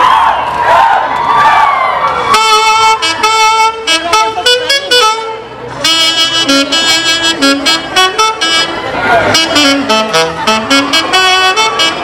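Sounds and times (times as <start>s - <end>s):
saxophones playing lively melody: 2.3s - 12.0s.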